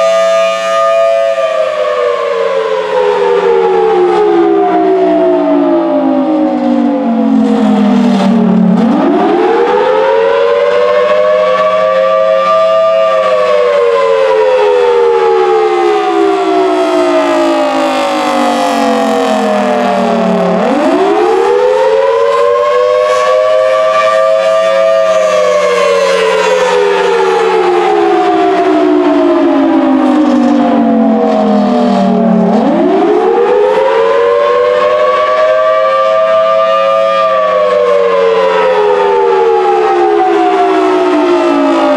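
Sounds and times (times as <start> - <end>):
wavering siren wail: 0.0 - 41.9.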